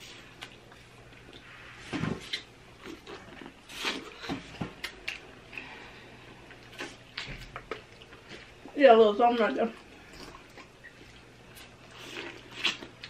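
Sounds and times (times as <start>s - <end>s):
wet chewing and slurping: 0.0s - 5.6s, 6.4s - 8.8s, 9.4s - 13.0s.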